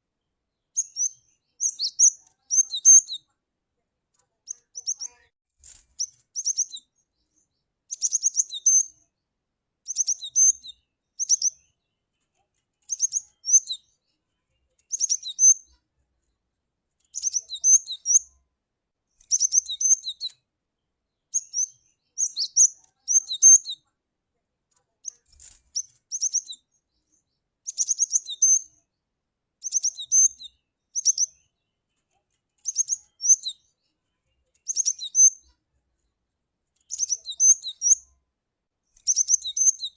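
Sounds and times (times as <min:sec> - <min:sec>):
bird chirping: 0:00.1 - 0:03.4, 0:04.3 - 0:16.4, 0:17.0 - 0:18.4, 0:19.1 - 0:24.0, 0:24.7 - 0:29.0, 0:29.6 - 0:36.2, 0:36.8 - 0:38.2, 0:38.9 - 0:39.9.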